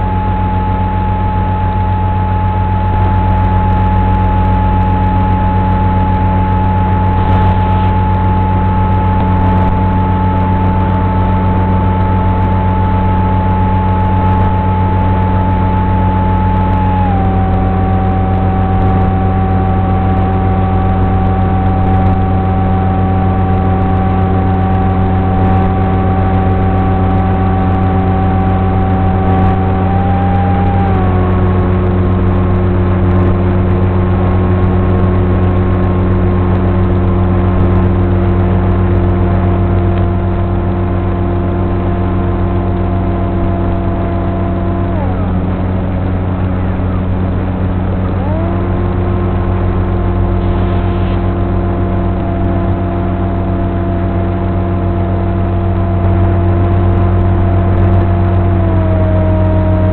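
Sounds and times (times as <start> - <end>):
electric motor and propeller buzzing: 0.0 - 59.9.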